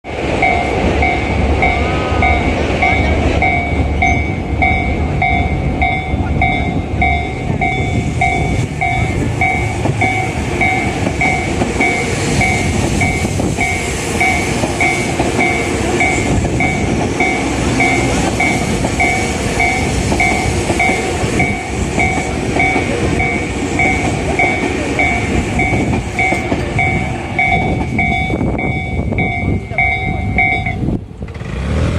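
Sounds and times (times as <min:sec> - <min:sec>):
electric train rumbling past: 0:00.0 - 0:31.9
wheels clattering over rails: 0:00.2 - 0:31.9
level crossing bell dinging: 0:00.4 - 0:30.9.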